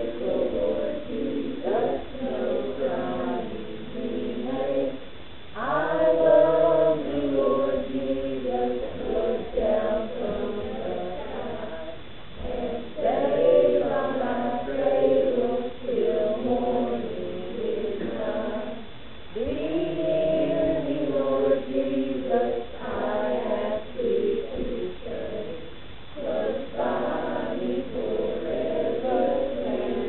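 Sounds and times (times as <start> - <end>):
children's choir singing: 0.0 - 30.0.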